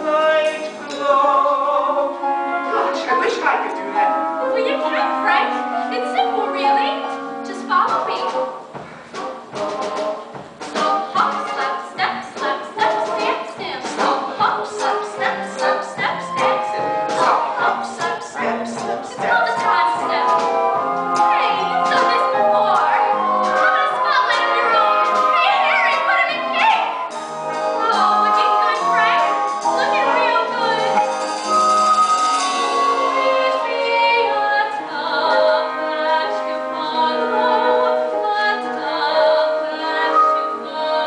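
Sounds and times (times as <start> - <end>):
pit orchestra with brass: 0.0 - 41.0.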